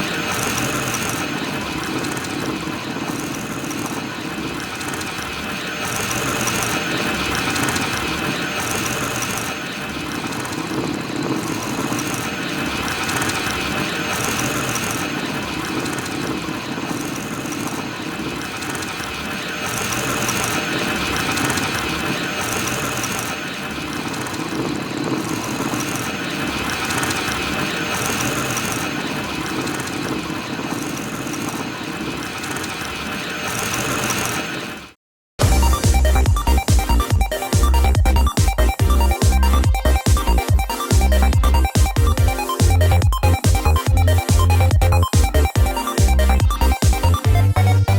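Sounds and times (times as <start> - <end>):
robot rolling whirring and rattling: 0.0 - 35.0, 35.6 - 47.5.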